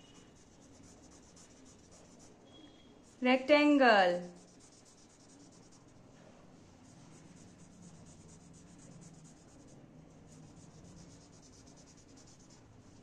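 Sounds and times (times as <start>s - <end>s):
marker scribbling on paper: 0.0s - 3.4s, 4.1s - 6.0s, 6.8s - 13.0s.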